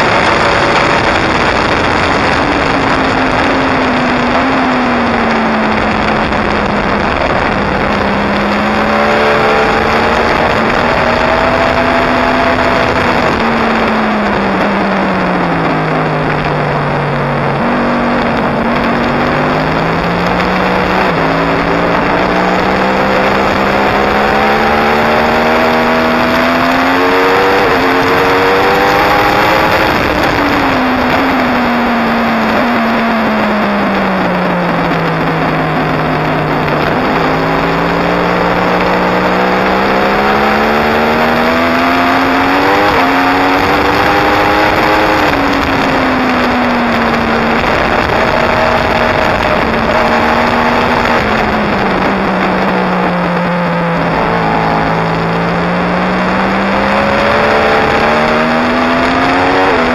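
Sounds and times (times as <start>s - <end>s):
motorcycle engine at speed: 0.0s - 59.9s
wind rush on microphone: 0.0s - 59.9s.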